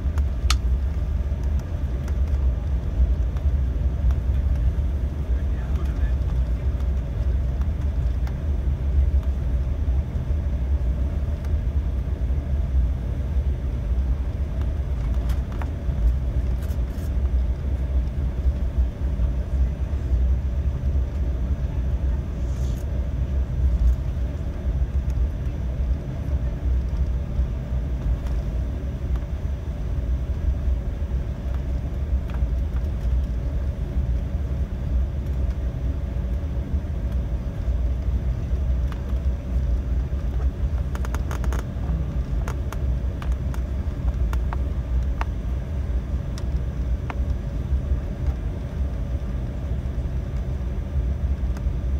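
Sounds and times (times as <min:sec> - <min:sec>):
faint constant hum: 0:00.0 - 0:51.9
jet cabin engine rumble: 0:00.0 - 0:51.9.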